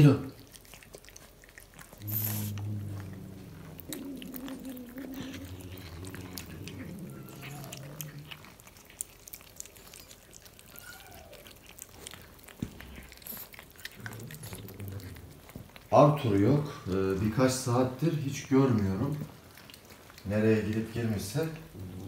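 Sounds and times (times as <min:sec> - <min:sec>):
cats chewing chicken: 0:00.0 - 0:22.0.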